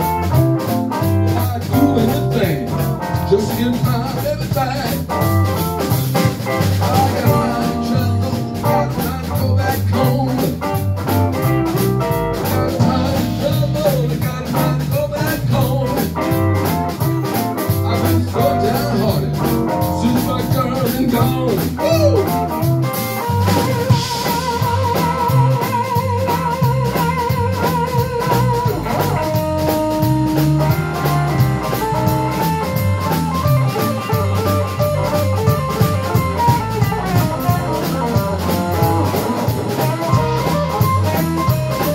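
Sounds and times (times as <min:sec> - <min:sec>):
drum kit steady beat: 0:00.0 - 0:41.9
electric bass: 0:00.0 - 0:41.9
electric guitar lead with bent notes: 0:00.0 - 0:41.9.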